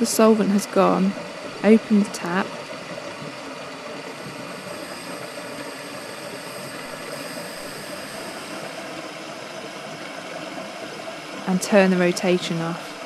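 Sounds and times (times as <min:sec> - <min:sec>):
water aspirator hissing: 0:00.0 - 0:13.0.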